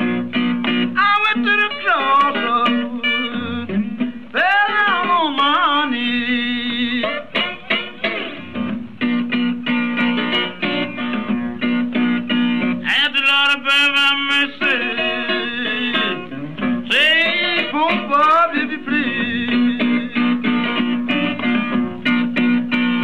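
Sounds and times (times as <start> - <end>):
guitar song with singing: 0.0 - 23.0.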